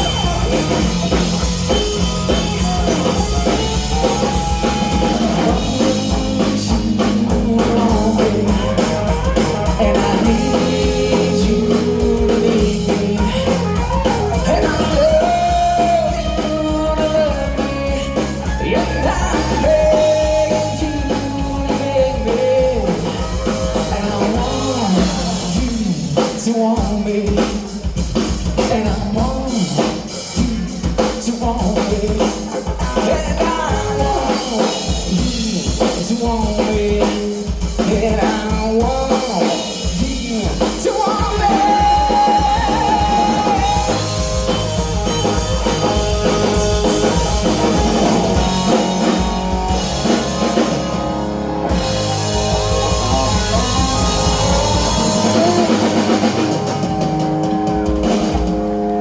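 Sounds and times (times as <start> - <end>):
drum kit: 0.0 - 59.0
electric guitar: 0.0 - 59.0
person singing: 0.0 - 59.0.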